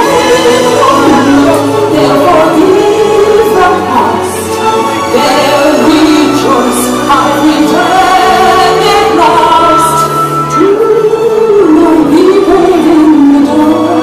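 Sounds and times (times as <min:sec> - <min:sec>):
loud music with singing: 0:00.0 - 0:14.0.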